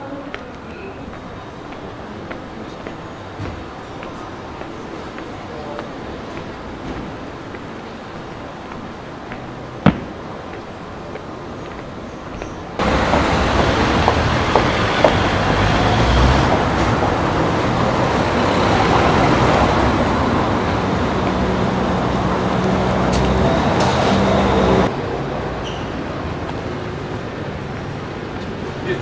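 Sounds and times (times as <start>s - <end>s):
vehicles on cobbled street: 0.0s - 29.0s.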